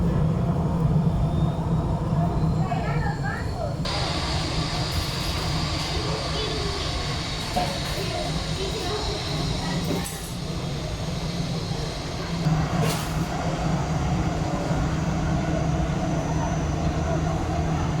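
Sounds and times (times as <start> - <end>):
aircraft engines rumbling: 0.0 - 18.0.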